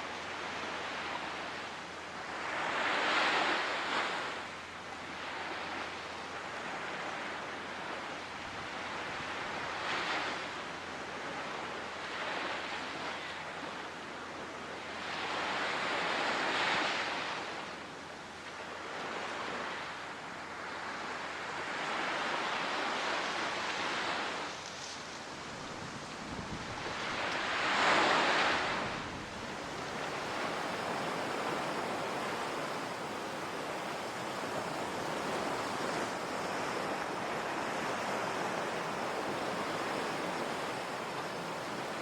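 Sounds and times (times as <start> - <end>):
waves breaking on shore: 0.0 - 42.0.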